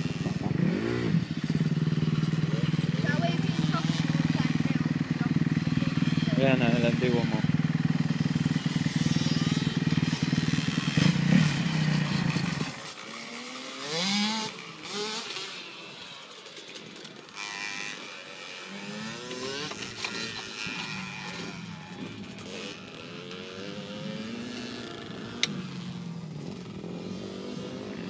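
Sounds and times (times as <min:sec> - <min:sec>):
pit bike engines revving: 0:00.0 - 0:28.0.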